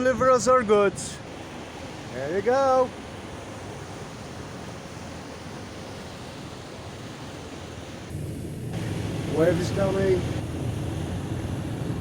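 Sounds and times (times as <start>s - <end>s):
water rushing around boat: 0.0s - 12.0s
low engine hum: 1.2s - 12.0s.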